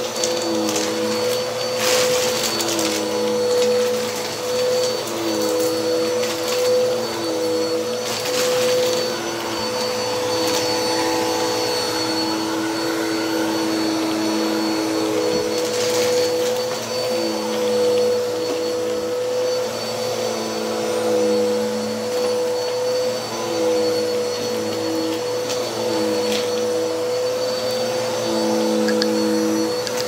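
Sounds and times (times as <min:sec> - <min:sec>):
upright vacuum motor humming: 0:00.0 - 0:30.0.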